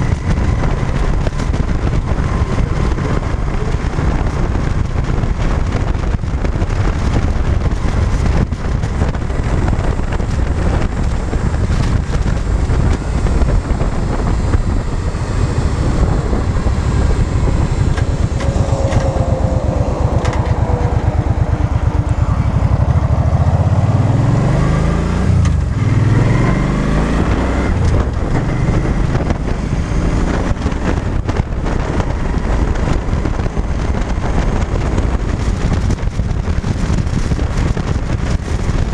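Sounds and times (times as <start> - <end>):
motorcycle engine accelerating: 0.0 - 38.9
wind rush on microphone: 0.0 - 38.9.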